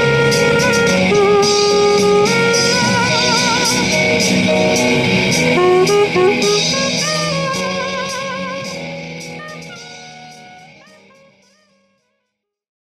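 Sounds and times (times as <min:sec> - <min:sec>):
music with wavering melody over beat: 0:00.0 - 0:12.2.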